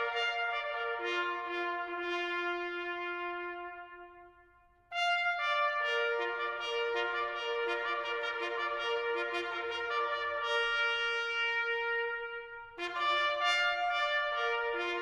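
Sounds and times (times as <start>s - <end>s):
bugle playing long notes: 0.0s - 4.3s, 4.9s - 15.0s.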